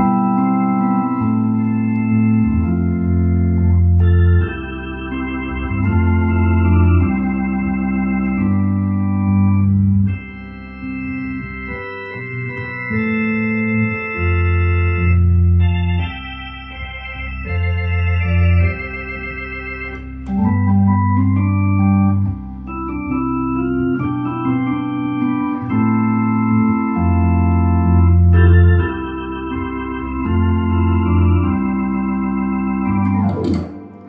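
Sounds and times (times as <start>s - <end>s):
organ bass line: 0.0s - 34.0s
organ playing chords: 0.0s - 34.0s.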